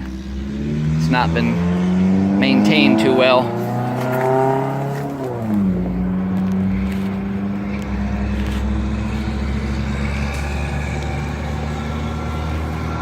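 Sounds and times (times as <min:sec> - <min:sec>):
engine hum with low rumble: 0:00.0 - 0:13.0
vehicle passing by: 0:00.0 - 0:13.0.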